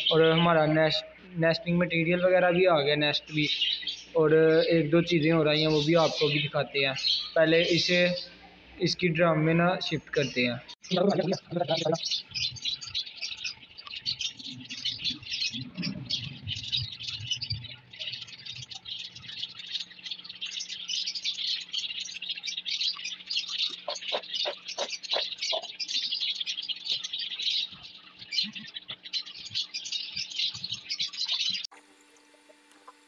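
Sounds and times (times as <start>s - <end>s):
parrots chattering and chirping: 2.6s - 8.9s, 9.6s - 31.7s.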